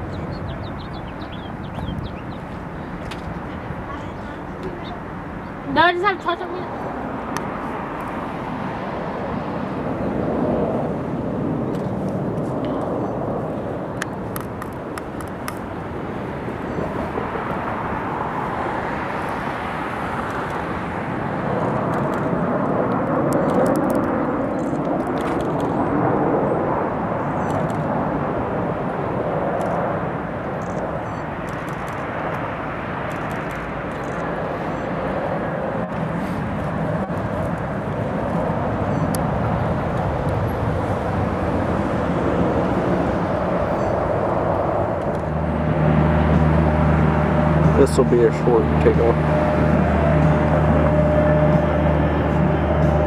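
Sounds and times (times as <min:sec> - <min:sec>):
aircraft engine rushing: 0:00.0 - 0:53.0.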